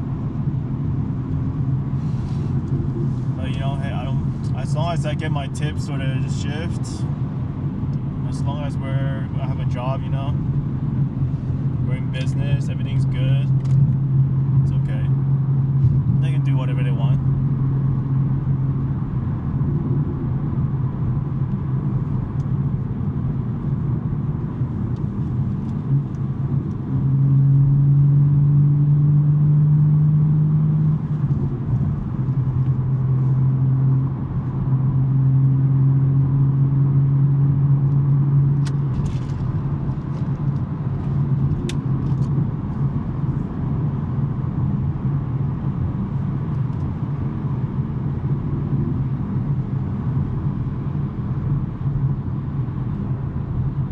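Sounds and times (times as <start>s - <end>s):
car engine and exhaust drone: 0.0s - 53.9s.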